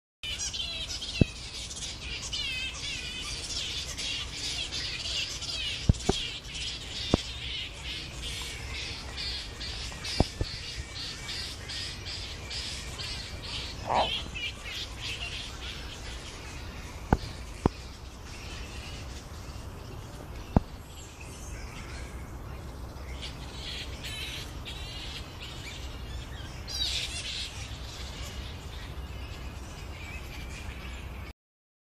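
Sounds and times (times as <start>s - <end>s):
flying foxes calling: 0.3s - 31.1s.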